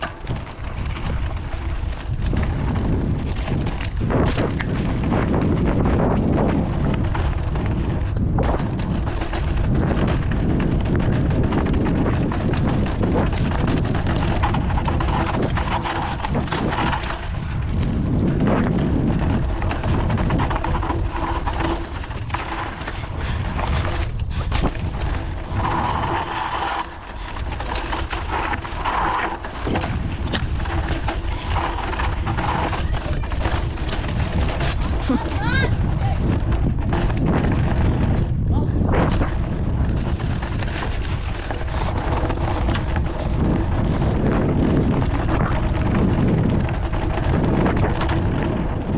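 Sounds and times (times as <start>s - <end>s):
bike rattling and knocking: 0.0s - 48.9s
wind rumble on microphone: 0.0s - 48.9s.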